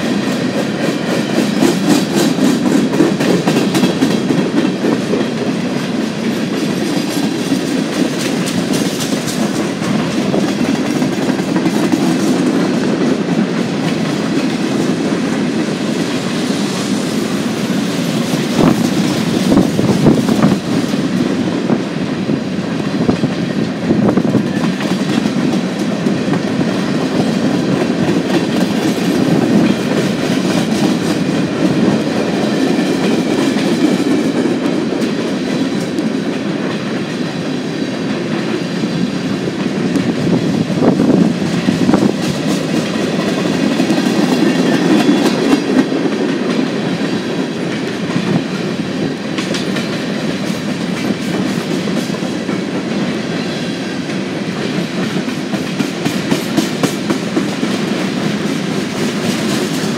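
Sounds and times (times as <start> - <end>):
clickety-clack over rail joints: 0.0 - 59.9
steel wheels rumbling on rail: 0.0 - 59.9.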